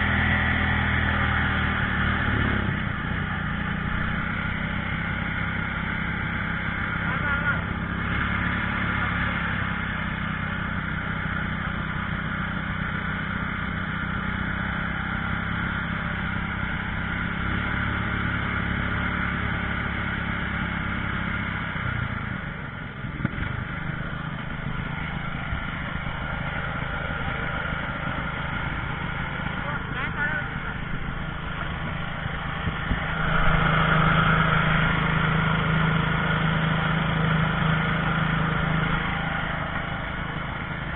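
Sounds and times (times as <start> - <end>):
fire engine running: 0.0 - 40.9.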